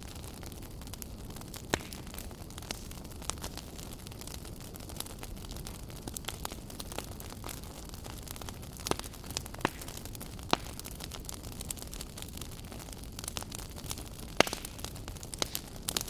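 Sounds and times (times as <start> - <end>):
fire popping and snapping: 0.0 - 16.0.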